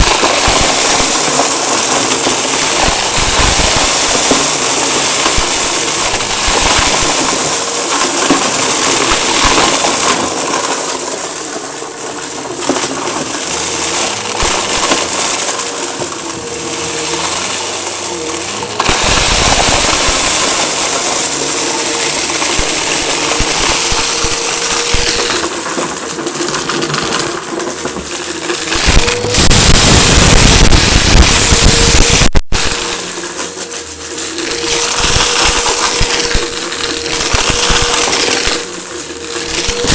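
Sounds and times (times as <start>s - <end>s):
debris crackling clicks: 0.0s - 39.9s
vacuum cleaner motor hum: 0.0s - 39.9s.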